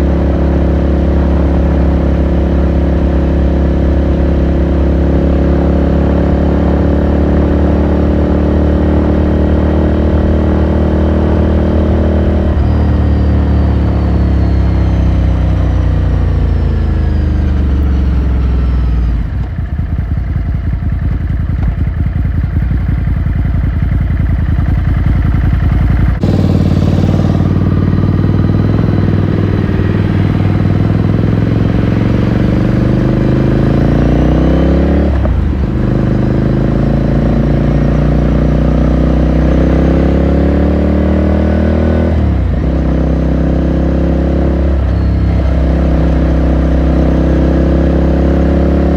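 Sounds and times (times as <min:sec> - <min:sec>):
motorcycle engine and exhaust: 0:00.0 - 0:48.9.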